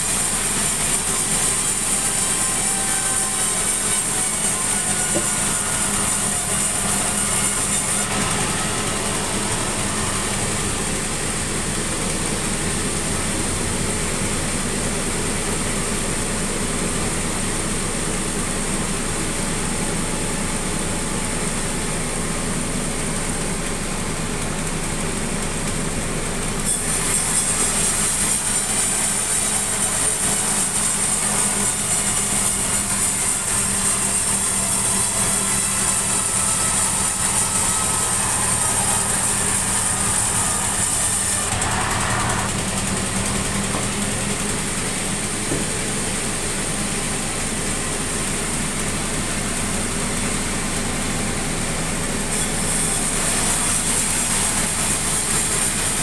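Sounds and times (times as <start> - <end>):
sawmill saw cutting timber: 0.0 - 56.0.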